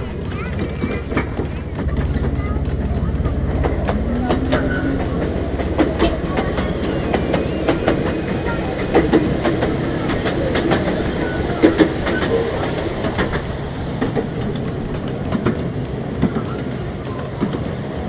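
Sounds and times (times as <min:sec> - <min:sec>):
train wheels rumbling: 0:00.0 - 0:18.0
wheels clicking over rail joints: 0:00.0 - 0:18.0.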